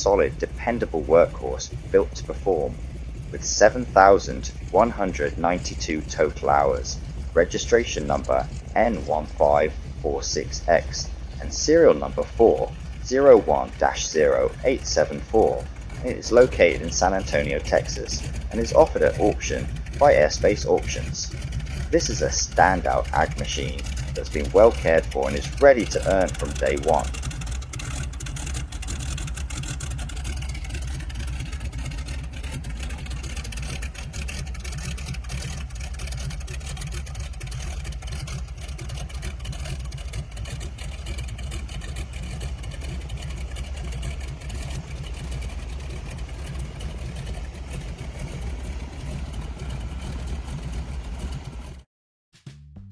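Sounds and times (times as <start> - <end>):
plane engine droning: 0.0 - 51.9.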